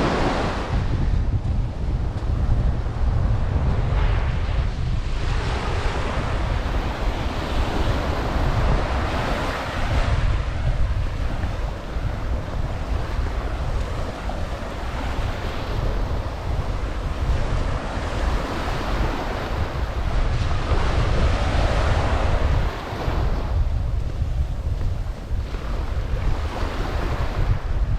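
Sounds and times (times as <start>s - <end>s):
surf washing up beach: 0.0s - 27.9s
wind buffeting microphone: 0.0s - 27.9s.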